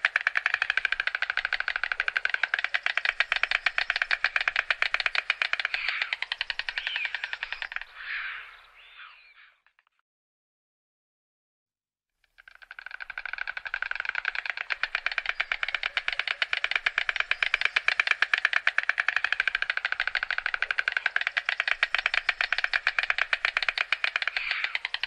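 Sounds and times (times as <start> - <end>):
stork bill clattering: 0.0 - 8.0, 12.3 - 25.0.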